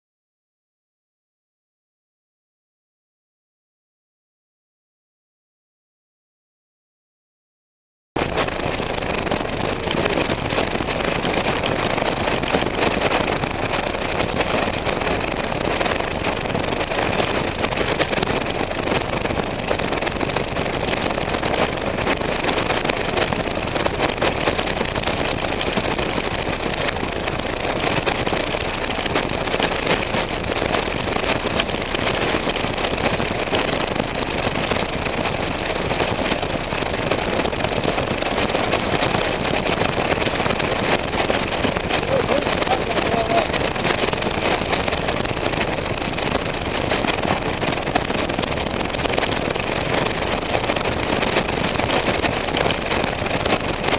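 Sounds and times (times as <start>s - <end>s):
strong wind on microphone: 8.2s - 53.9s.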